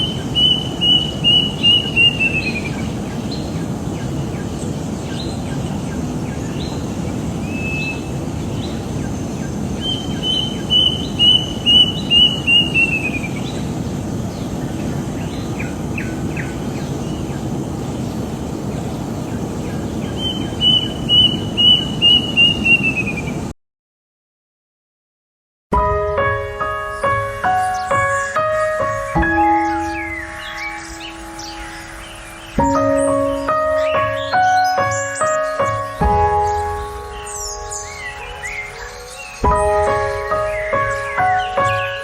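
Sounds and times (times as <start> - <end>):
bird chirps: 0.0 - 23.5, 26.7 - 42.0
bird singing: 0.0 - 23.5, 26.7 - 42.0.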